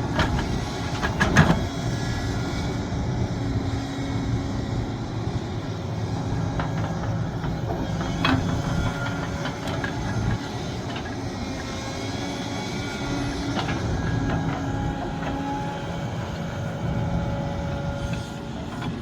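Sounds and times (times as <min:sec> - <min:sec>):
excavator engine hum: 0:00.0 - 0:19.0.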